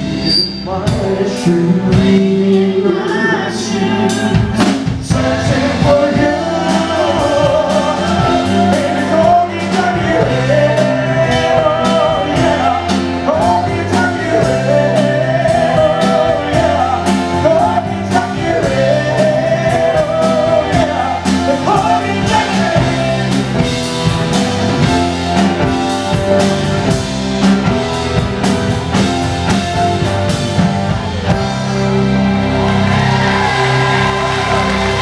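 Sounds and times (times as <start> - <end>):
drum kit: 0.0 - 35.0
guitar: 0.0 - 35.0.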